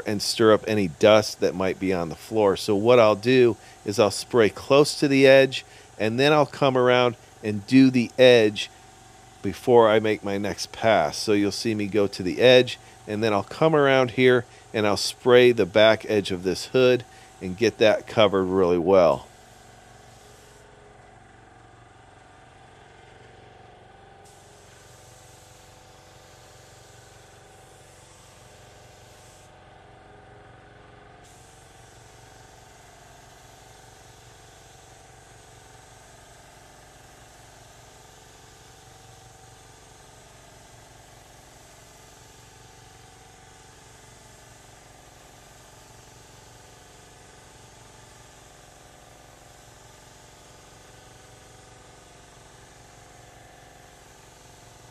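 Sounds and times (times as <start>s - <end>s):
paint spray gun hissing: 0.0s - 21.5s, 22.1s - 54.9s
machine hum with held tones: 0.0s - 54.9s.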